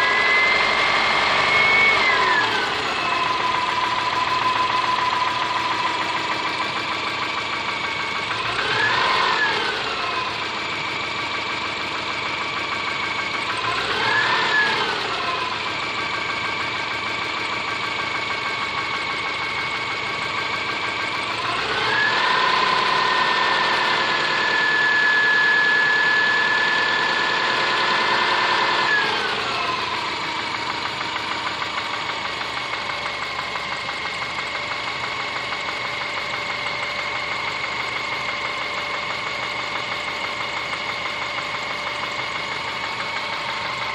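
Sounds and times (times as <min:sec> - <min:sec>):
engine revving: 0:00.0 - 0:43.9
car engine idling with knock: 0:00.1 - 0:24.5, 0:27.2 - 0:43.9.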